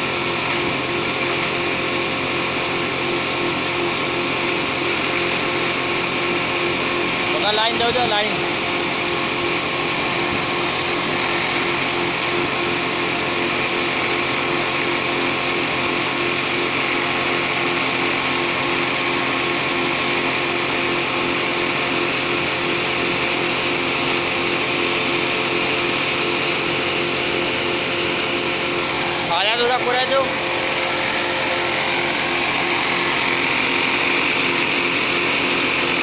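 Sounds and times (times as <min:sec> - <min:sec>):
wood shredder running: 0:00.0 - 0:36.0.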